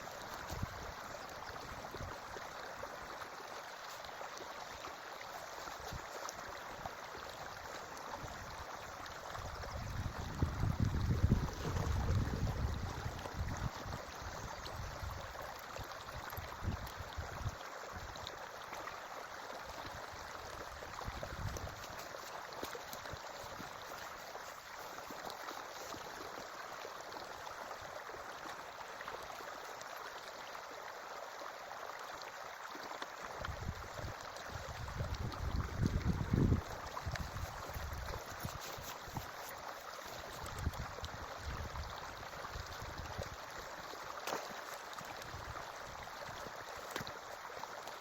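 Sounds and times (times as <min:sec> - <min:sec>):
creek water running: 0:00.0 - 0:48.0.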